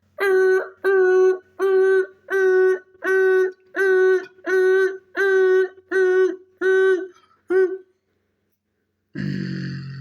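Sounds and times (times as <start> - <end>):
person imitating machine vocally: 0.0 - 7.9, 9.2 - 10.0.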